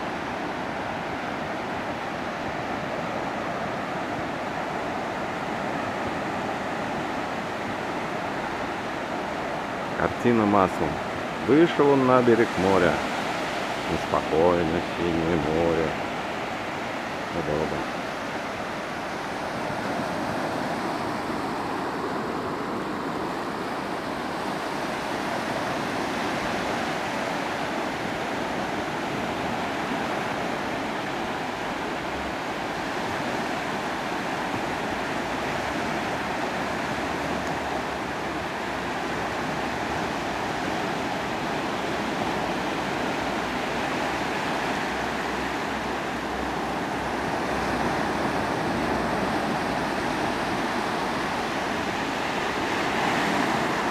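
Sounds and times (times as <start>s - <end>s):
small waves breaking on shore: 0.0s - 53.9s.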